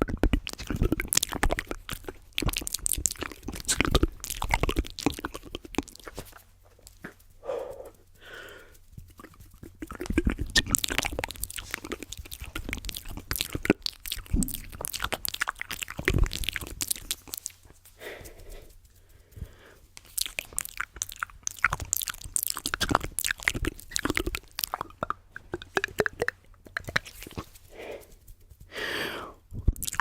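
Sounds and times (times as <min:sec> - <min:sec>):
mouth clicks and wet smacks: 0:00.0 - 0:30.0
soft breathy mouth noises: 0:00.0 - 0:30.0.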